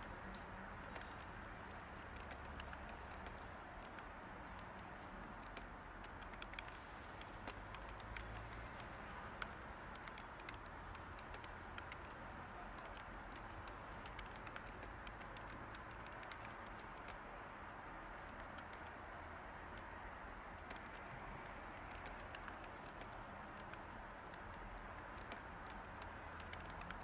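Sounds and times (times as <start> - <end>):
white noise hiss: 0.0 - 27.0
keyboard typing: 0.8 - 17.2, 18.2 - 19.1, 19.7 - 27.0.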